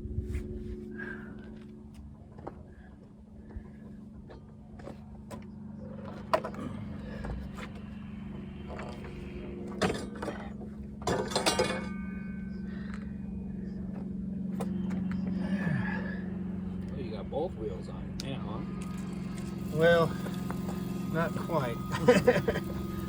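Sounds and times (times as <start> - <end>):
engine hum: 0.0 - 23.0.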